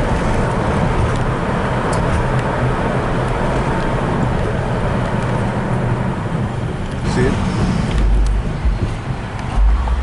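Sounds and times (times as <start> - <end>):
car engine: 0.0 - 10.0
road noise: 0.0 - 10.0.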